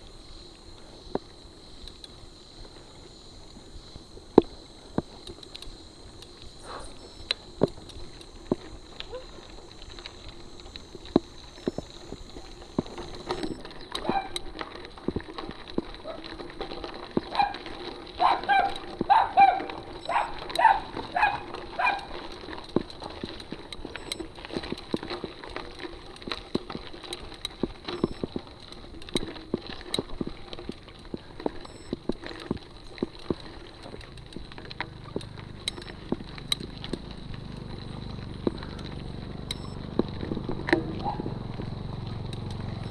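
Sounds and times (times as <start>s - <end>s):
bike rattling over gravel: 0.0s - 42.9s.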